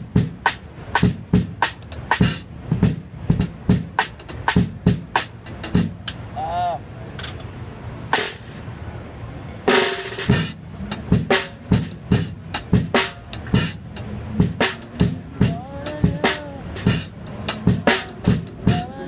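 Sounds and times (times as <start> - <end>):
drum kit played with sticks: 0.0 - 6.2, 8.1 - 8.6, 9.7 - 19.0.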